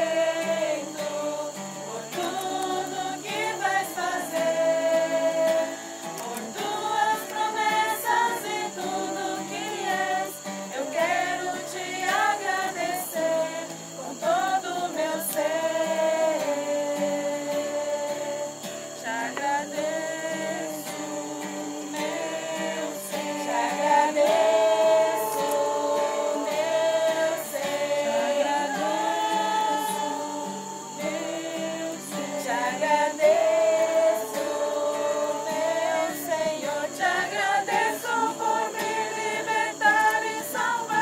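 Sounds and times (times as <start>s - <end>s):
group singing a hymn a cappella: 0.0s - 41.0s.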